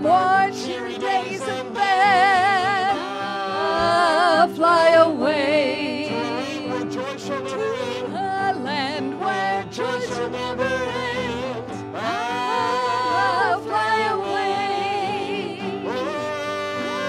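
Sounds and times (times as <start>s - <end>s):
man and woman singing: 0.0s - 17.0s
strummed acoustic guitar: 0.0s - 17.0s.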